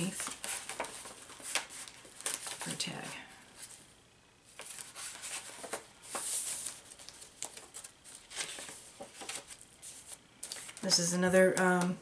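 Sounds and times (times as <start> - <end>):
paper rustling and crinkling: 0.0 - 3.8, 4.5 - 11.9.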